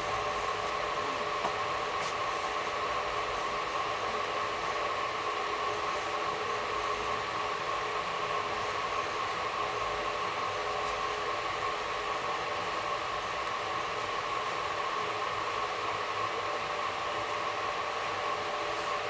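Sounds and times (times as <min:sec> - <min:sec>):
train coach hiss and hum: 0:00.0 - 0:19.0.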